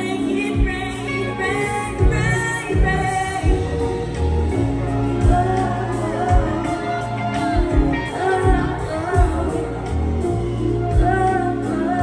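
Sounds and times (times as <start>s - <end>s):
live band music: 0.0s - 12.0s
woman singing: 0.0s - 12.0s.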